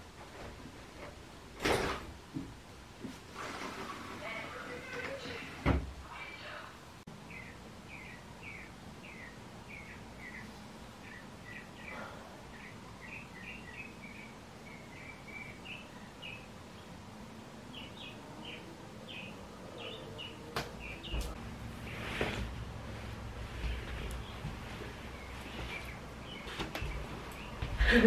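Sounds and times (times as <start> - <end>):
songbirds chirping: 4.2 - 27.8.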